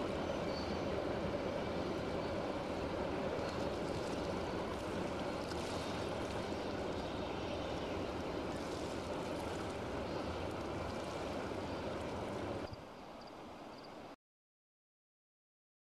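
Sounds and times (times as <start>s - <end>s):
freight train cars rolling past: 0.0s - 13.9s
river rushing: 0.0s - 14.1s.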